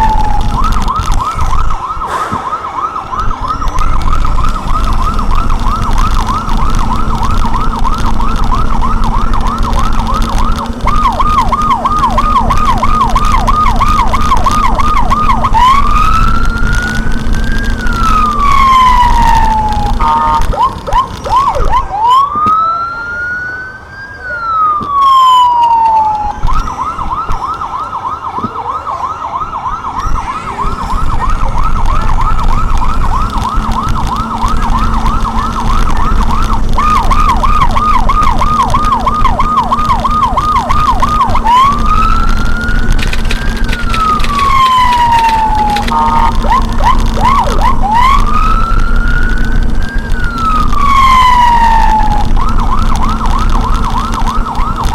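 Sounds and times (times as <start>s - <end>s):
electronic siren: 0.0s - 54.9s
engine and road rumble: 0.0s - 54.9s.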